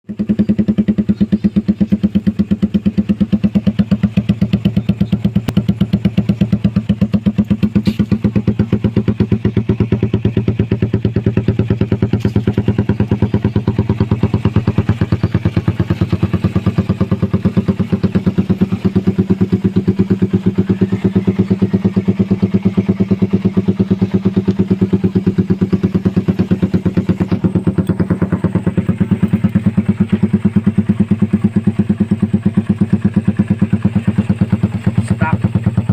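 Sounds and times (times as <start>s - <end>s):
motorcycle idling: 0.1s - 35.9s.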